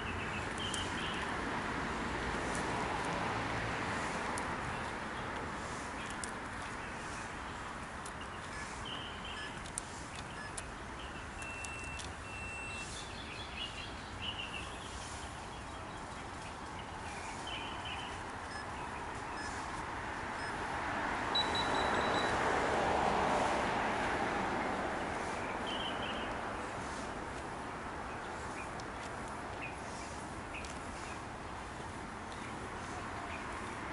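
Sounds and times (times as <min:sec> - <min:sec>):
birds chirping: 0:00.0 - 0:22.6, 0:24.4 - 0:33.9
distant city traffic hum: 0:00.0 - 0:33.9.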